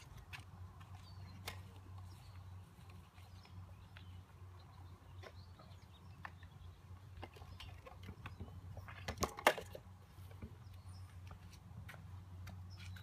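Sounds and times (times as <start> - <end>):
distant bird chirps: 0.8 - 11.6, 12.3 - 13.0.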